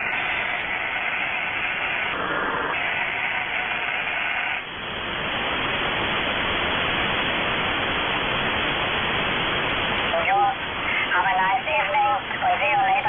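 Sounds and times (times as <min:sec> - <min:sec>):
radio receiver hiss and static: 0:00.0 - 0:13.0.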